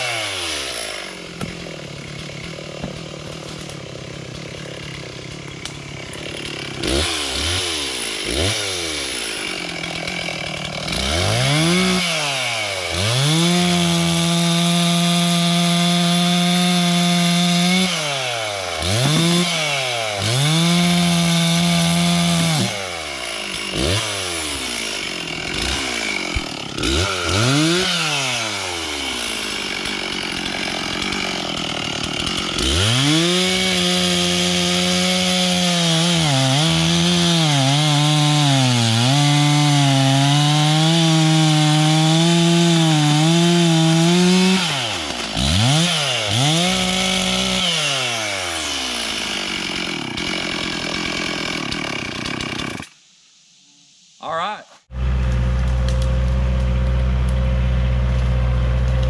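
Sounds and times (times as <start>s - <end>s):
chainsaw revving and cutting wood: 0.0s - 53.0s, 54.9s - 59.0s.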